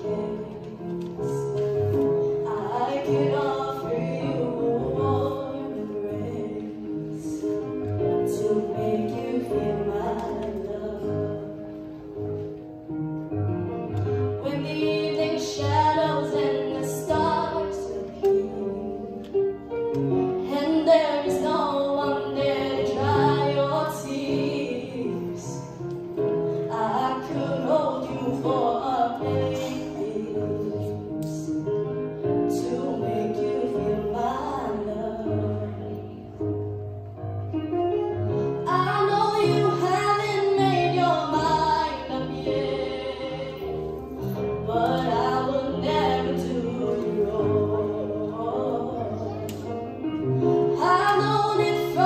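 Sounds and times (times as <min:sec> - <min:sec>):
instrumental accompaniment: 0:00.0 - 0:52.0.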